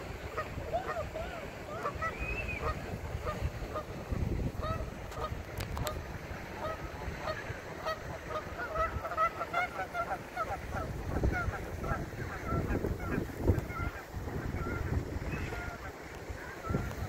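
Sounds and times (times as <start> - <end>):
geese honking: 0.2 - 17.0.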